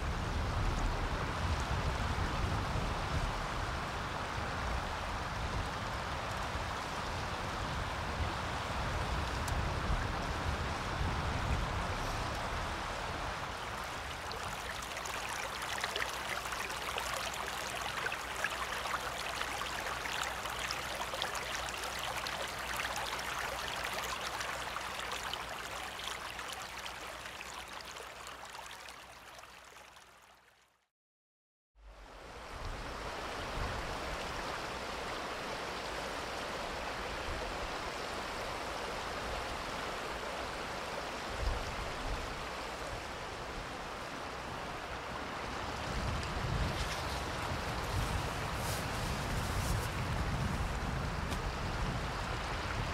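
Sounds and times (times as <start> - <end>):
stream water rushing: 3.9 - 30.7, 32.0 - 52.9.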